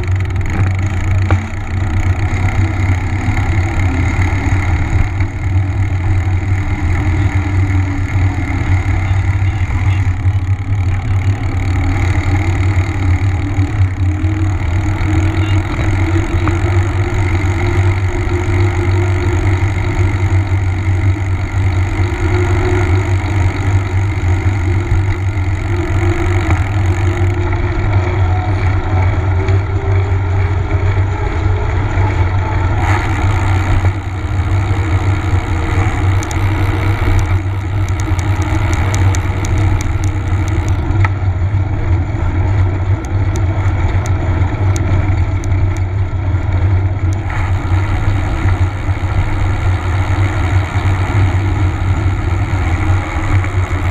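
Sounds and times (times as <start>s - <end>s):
bicycle tyres on asphalt: 0.0s - 53.9s.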